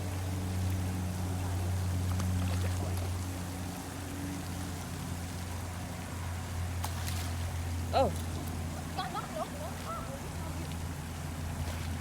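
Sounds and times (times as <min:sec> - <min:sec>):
faint outdoor noise: 0:00.0 - 0:12.0.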